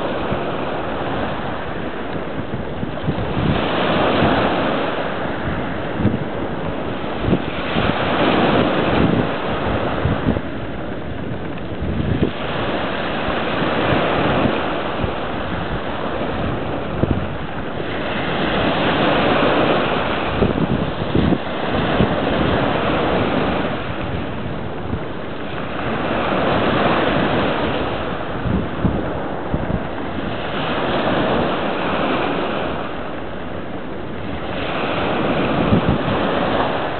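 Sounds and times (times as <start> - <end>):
waves washing over pebble beach: 0.0 - 36.9
wind buffeting microphone: 0.0 - 36.9.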